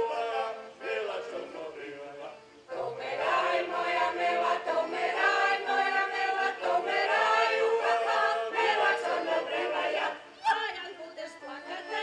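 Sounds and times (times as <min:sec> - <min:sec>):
folk choir singing: 0:00.0 - 0:12.0.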